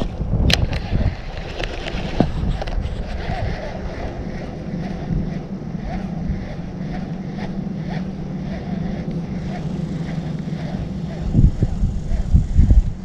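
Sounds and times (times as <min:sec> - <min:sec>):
wind buffeting microphone: 0:00.0 - 0:13.0
boat motor humming: 0:00.7 - 0:13.0.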